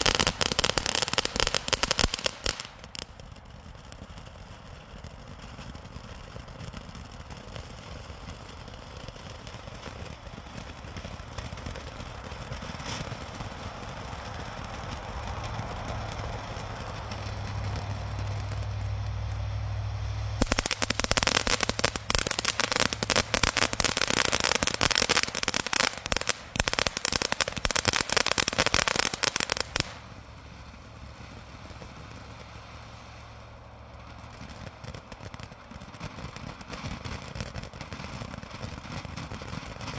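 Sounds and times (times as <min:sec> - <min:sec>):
firework fountain hissing: 0:00.0 - 0:39.9
firework rapid crackling: 0:00.0 - 0:39.9.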